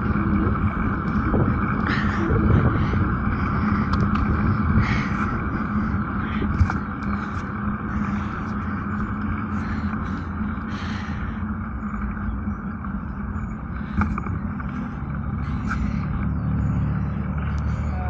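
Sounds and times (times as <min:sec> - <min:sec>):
vehicle engine running: 0:00.0 - 0:18.0
wind and road noise hiss: 0:00.0 - 0:18.0.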